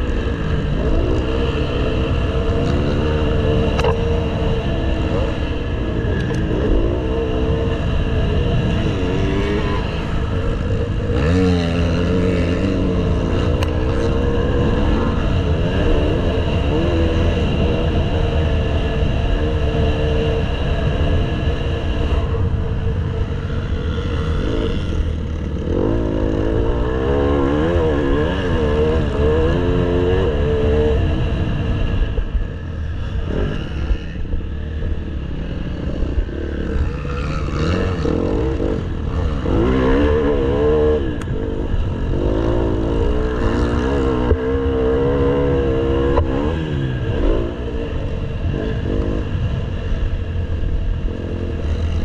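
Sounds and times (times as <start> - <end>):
motocross bike engine revving: 0.0 - 50.3.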